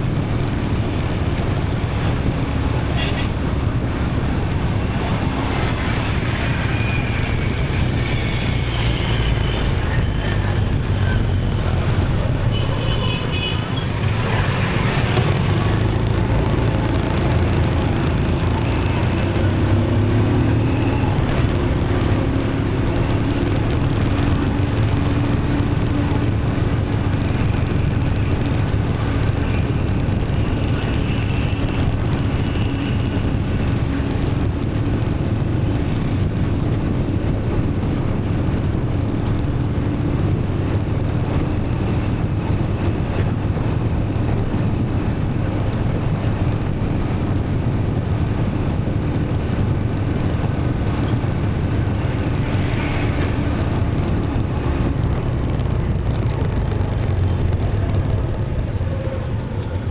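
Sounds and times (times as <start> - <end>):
motorbike engine and road rumble: 0.0 - 59.9
surrounding motorbikes and cars: 0.0 - 59.9.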